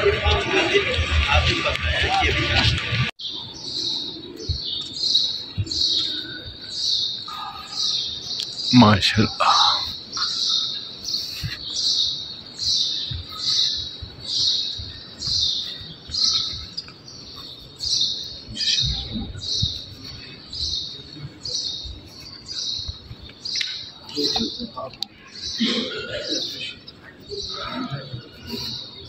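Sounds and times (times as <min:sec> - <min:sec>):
bird chirping: 0:03.2 - 0:29.0.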